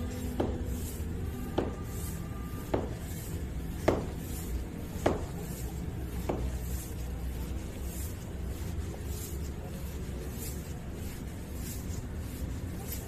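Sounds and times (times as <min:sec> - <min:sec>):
hand pump strokes: 0:00.0 - 0:13.0.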